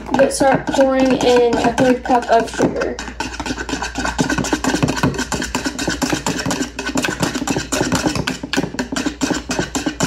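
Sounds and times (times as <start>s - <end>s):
whisk beating in plastic bowl: 0.0s - 10.0s.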